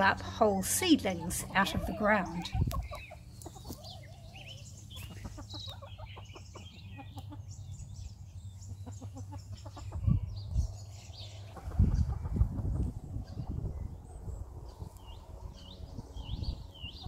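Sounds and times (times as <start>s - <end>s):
chickens clucking: 0.0s - 15.4s.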